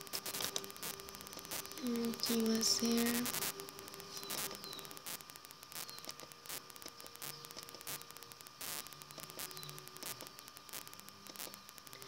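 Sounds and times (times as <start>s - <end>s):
electrical hum and hiss: 0.0s - 12.0s
faint irregular clicks: 0.0s - 12.0s.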